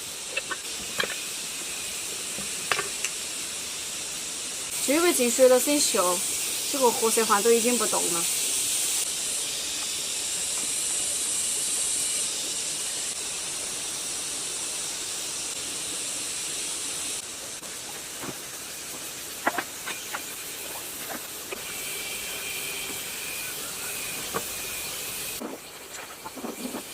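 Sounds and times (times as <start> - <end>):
high hiss of spraying: 0.0 - 26.9.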